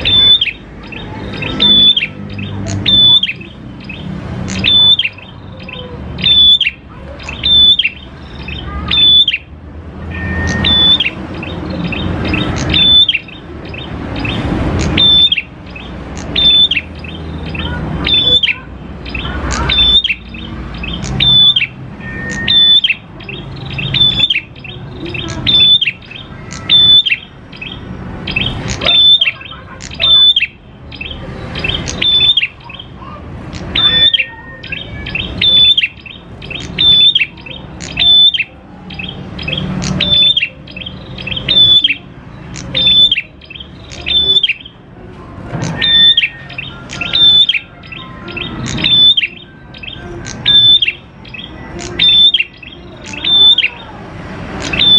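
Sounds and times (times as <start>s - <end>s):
bird sharp high chirps: 0.0s - 44.9s, 45.5s - 54.9s.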